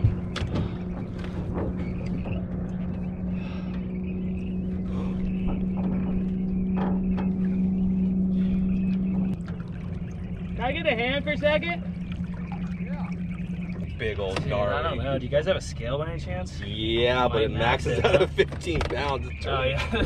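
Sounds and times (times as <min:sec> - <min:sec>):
low electric hum: 0:00.0 - 0:20.0.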